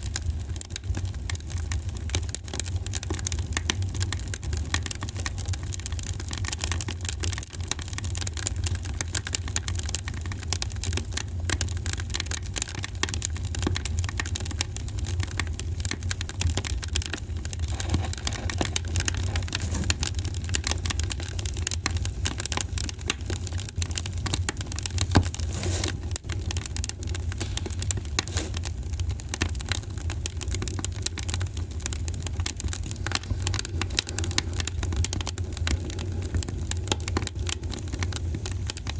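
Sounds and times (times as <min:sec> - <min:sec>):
low fire rumble: 0:00.0 - 0:38.9
wood fire crackling: 0:00.0 - 0:38.9.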